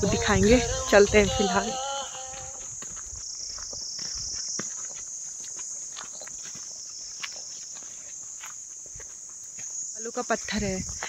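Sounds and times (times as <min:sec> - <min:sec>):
high-pitched insect chorus: 0:00.0 - 0:11.0
footsteps on dry pine needles: 0:01.4 - 0:11.0.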